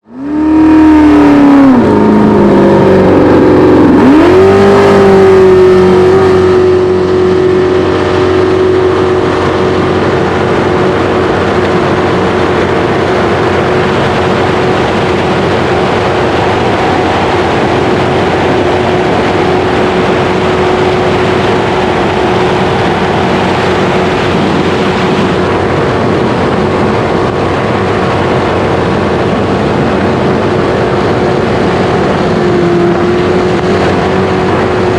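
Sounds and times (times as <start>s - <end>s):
jet boat engine running loud: 0.0s - 34.9s
rushing water wash: 0.0s - 34.9s.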